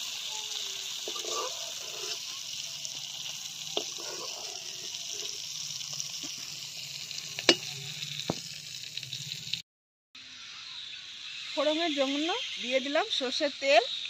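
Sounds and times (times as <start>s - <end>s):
hot oil sizzling in a wok: 0.0s - 9.6s, 10.2s - 14.0s.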